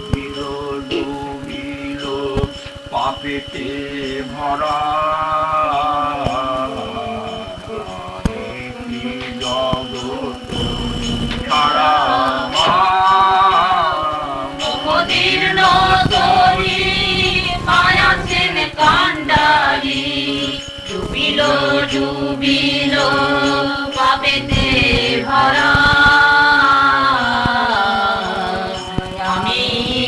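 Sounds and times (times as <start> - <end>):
devotional chant singing: 0.0 - 30.0
steady held drone: 0.0 - 30.0.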